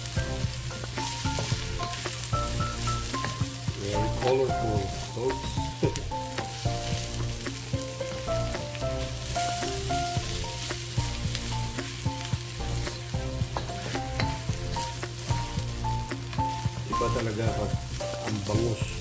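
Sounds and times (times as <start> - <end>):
fish sizzling in a wok: 0.0 - 19.0
soft background music: 0.0 - 19.0
wooden spatula scraping: 0.2 - 19.0.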